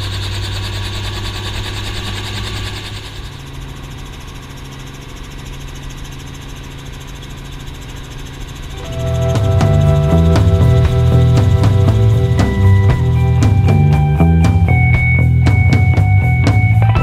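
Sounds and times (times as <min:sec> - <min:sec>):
helicopter engine and rotor: 0:00.0 - 0:15.6.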